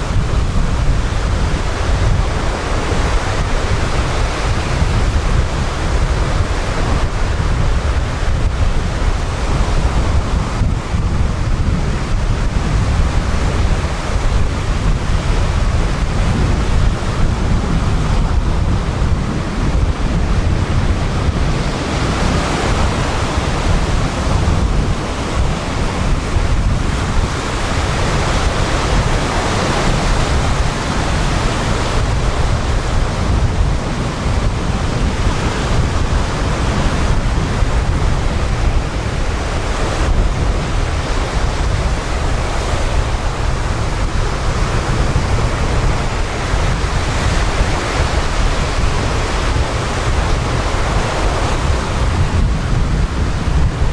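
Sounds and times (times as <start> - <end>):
surf washing up sandy beach: 0.0 - 53.9
wind rumbling on microphone: 0.0 - 53.9.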